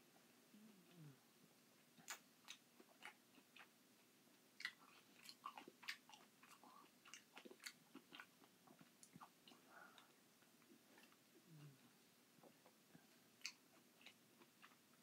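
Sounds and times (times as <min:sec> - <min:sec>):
chewing and lip-smacking: 0:02.0 - 0:03.7, 0:04.6 - 0:15.0.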